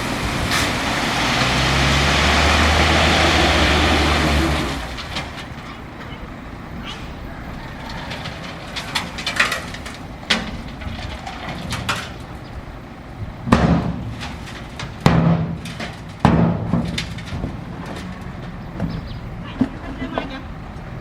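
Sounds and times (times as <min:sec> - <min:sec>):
bulldozer engine hum: 0:00.0 - 0:21.0.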